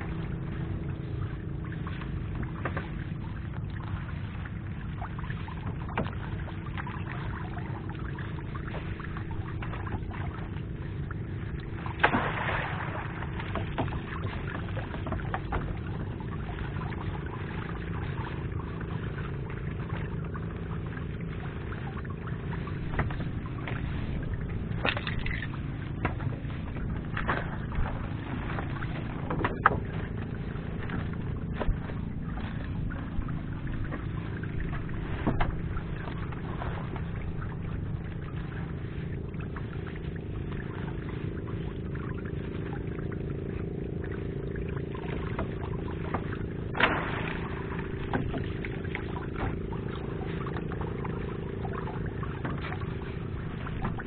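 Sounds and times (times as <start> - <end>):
boat engine droning: 0.0 - 54.0
knocks and water splashes: 0.0 - 54.0.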